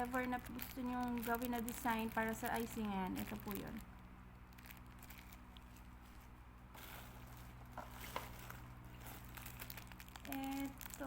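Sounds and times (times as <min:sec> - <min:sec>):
faint handling noises: 0:00.0 - 0:11.0
low electrical hum: 0:00.0 - 0:11.0.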